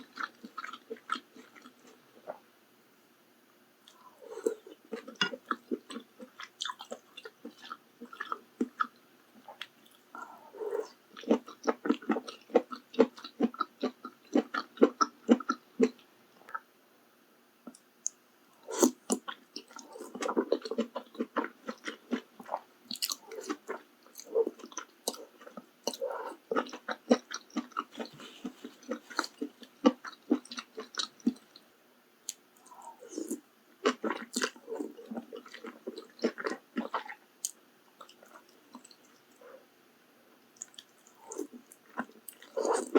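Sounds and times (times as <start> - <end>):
wet chewing and crunching: 0.0 - 2.4, 3.8 - 16.6, 18.7 - 31.6, 32.3 - 39.6, 40.5 - 42.9.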